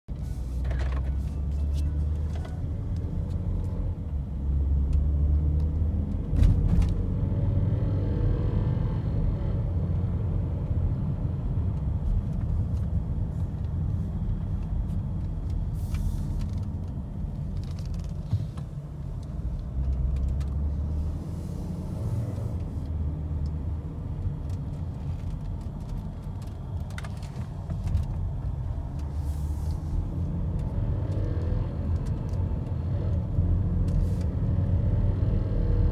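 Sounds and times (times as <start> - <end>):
car low rumble in motion: 0.0 - 35.9.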